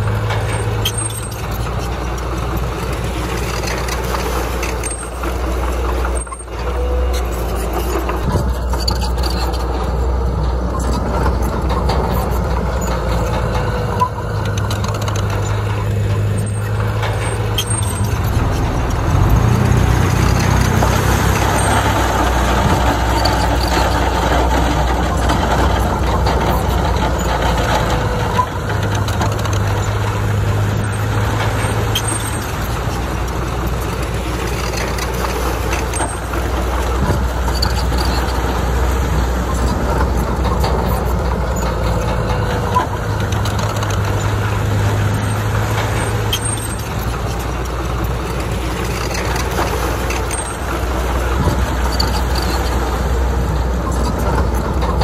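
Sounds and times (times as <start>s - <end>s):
bulldozer diesel engine drone: 0.0s - 55.0s.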